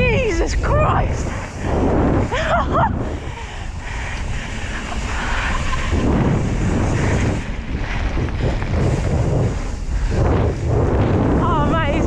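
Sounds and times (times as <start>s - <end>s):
bike tyres rolling on gravel: 0.0s - 12.0s
wind buffeting microphone: 0.0s - 12.0s.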